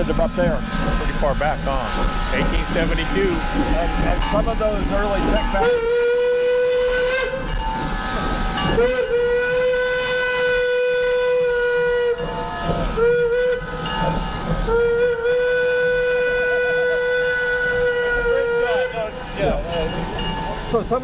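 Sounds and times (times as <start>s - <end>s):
steam locomotive whistle: 0.0s - 20.9s.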